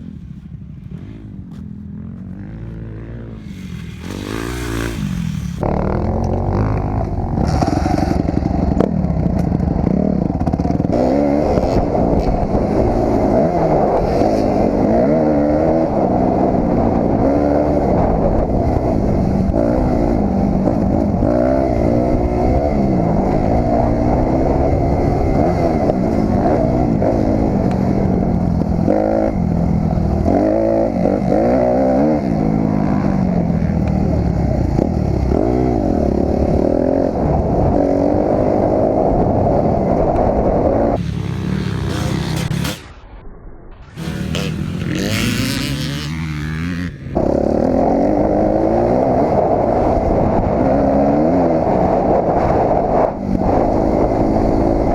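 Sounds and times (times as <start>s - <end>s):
dirt bike engine revving: 0.0s - 43.0s, 43.9s - 54.9s.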